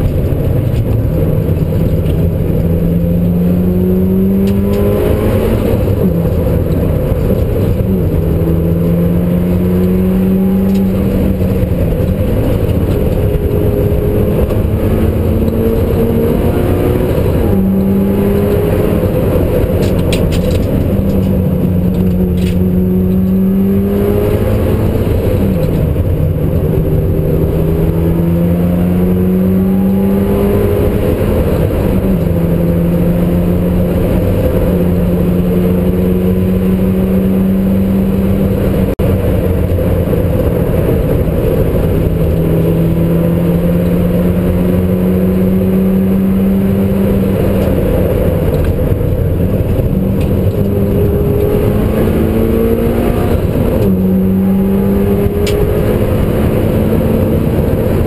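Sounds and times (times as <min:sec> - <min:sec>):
car engine accelerating: 0:00.0 - 0:58.0
road and tyre rumble: 0:00.0 - 0:58.0.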